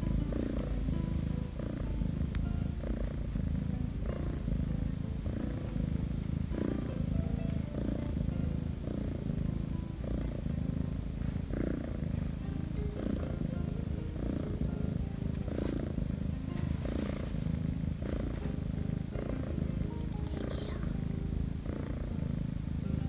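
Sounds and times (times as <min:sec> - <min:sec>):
kitten purring: 0:00.0 - 0:23.0.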